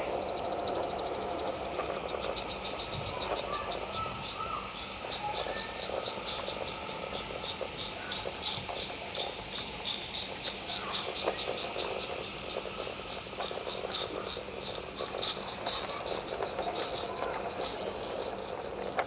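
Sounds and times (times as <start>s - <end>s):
steam locomotive chuffing: 0.0s - 19.0s
wagon wheels clattering on track: 0.0s - 19.0s.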